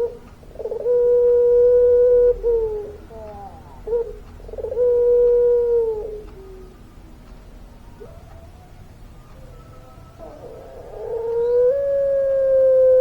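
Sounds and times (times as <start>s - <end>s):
dove cooing: 0.0s - 6.8s, 8.0s - 13.0s.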